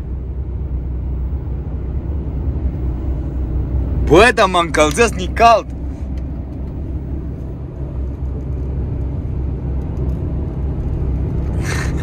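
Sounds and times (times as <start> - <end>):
lorry engine rumble: 0.0 - 12.0
road noise: 0.0 - 12.0.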